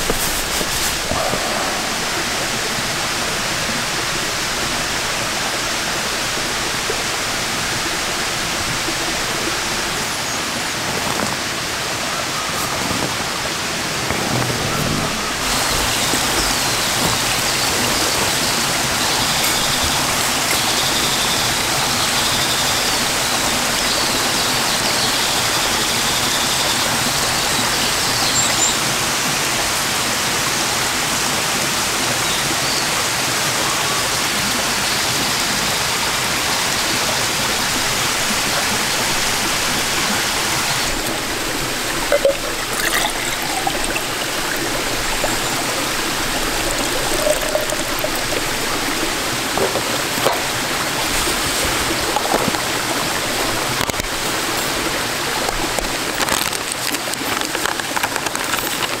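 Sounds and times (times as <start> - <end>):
mountain stream flowing: 0.0 - 59.0.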